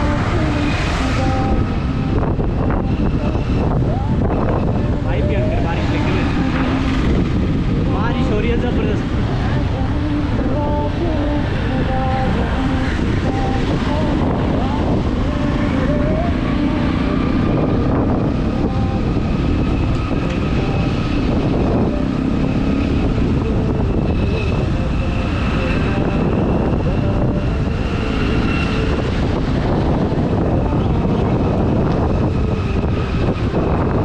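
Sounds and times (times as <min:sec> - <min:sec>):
motorcycle road rush: 0:00.0 - 0:34.0
wind buffeting microphone: 0:00.0 - 0:34.0.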